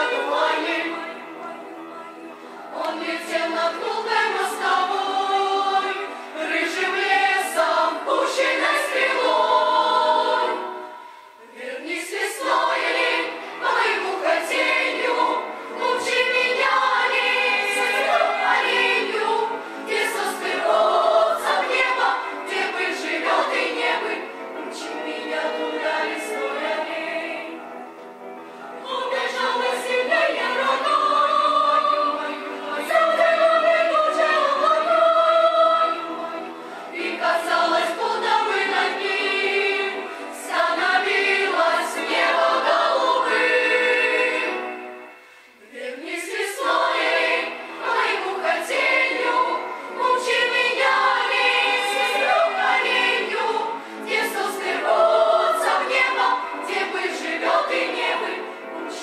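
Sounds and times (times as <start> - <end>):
girls' choir singing: 0.0 - 27.8, 28.8 - 59.0.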